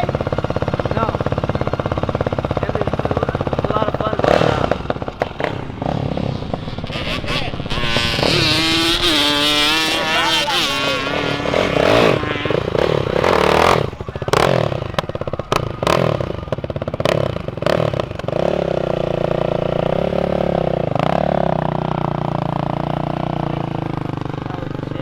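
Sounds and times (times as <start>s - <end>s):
motorcycle engine revving and idling: 0.0s - 25.0s.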